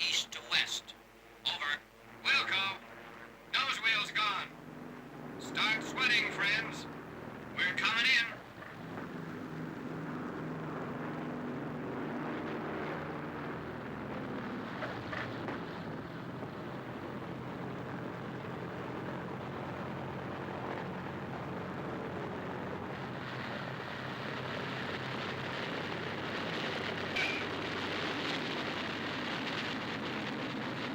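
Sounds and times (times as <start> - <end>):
propeller plane engines droning: 0.0 - 30.9.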